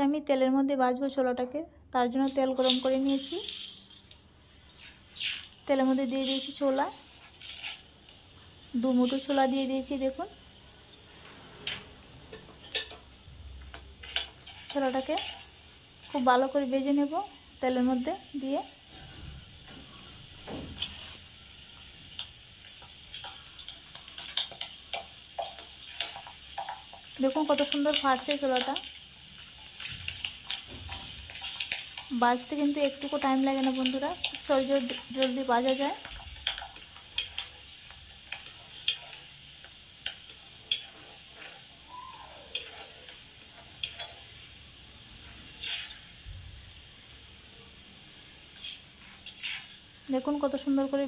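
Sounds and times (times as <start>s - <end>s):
chickpeas sizzling in hot oil: 2.1s - 51.0s.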